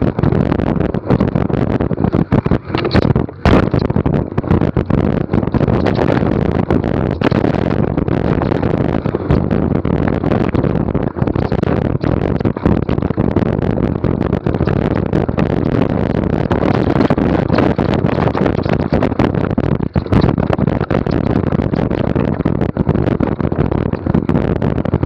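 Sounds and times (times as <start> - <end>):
bike rattling and tyre noise: 0.0 - 25.0
wind rushing on microphone: 0.0 - 25.0.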